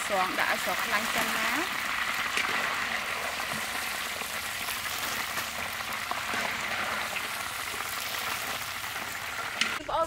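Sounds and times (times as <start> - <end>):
oil sizzling in a wok: 0.0 - 9.8.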